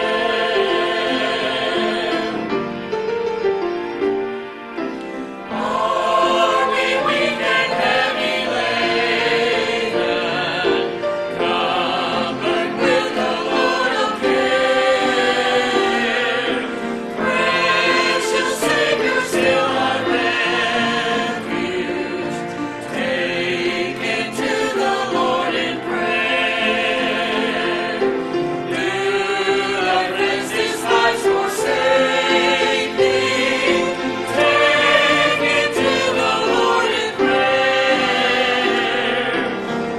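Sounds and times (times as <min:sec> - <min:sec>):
mixed choir singing a hymn: 0:00.0 - 0:03.2, 0:05.2 - 0:39.9.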